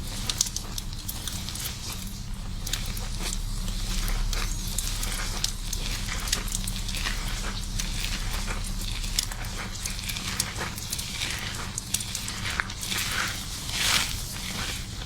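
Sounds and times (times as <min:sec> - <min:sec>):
fingers scrubbing lathered hair: 0:00.0 - 0:15.0.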